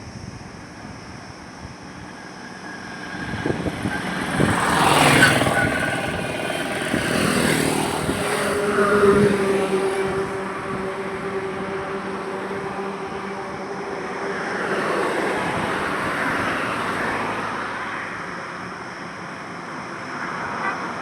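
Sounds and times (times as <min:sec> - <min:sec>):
engine drone: 0:00.0 - 0:21.0
vehicles passing on highway: 0:00.0 - 0:21.0.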